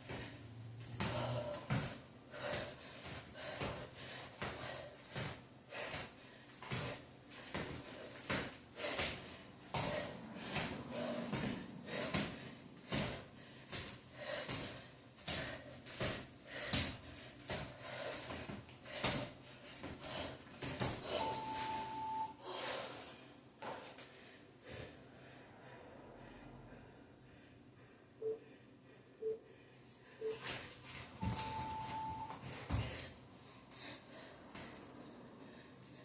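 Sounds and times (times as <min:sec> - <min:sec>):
hard rhythmic breathing: 0:00.0 - 0:36.0.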